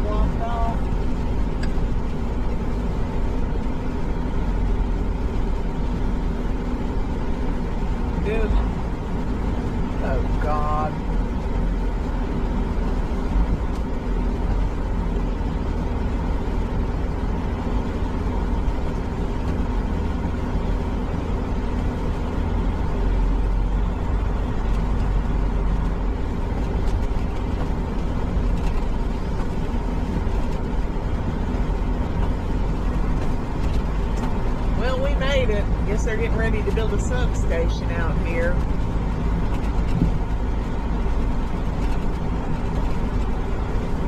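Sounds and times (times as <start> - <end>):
truck diesel engine droning: 0.0 - 44.0.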